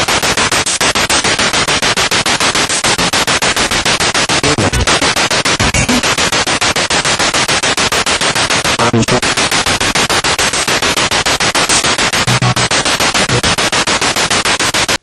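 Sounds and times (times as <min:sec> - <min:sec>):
radio static in rapid bursts: 0:00.0 - 0:15.0.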